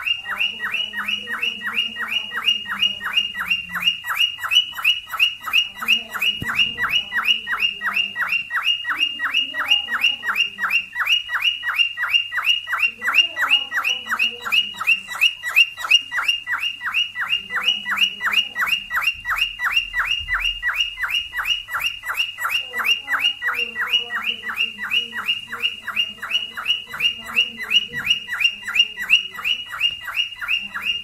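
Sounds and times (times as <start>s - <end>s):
cockatiel chirping: 0.0s - 31.0s.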